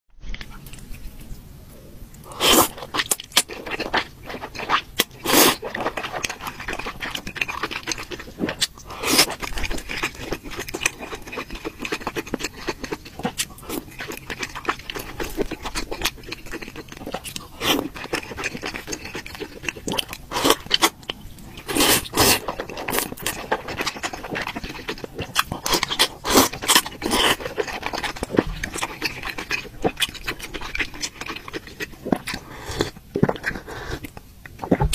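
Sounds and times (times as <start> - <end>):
wet chewing: 2.1 - 34.9
noodle slurping: 2.3 - 20.9, 21.5 - 34.9.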